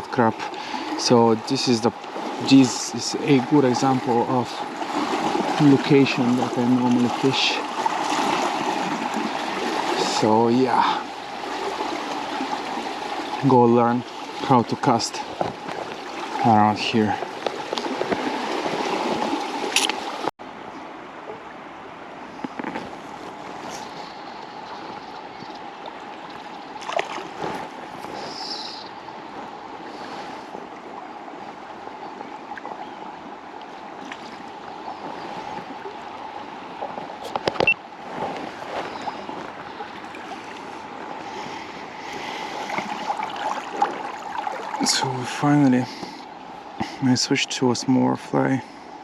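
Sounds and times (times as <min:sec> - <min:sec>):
river water rushing: 0:00.0 - 0:47.7.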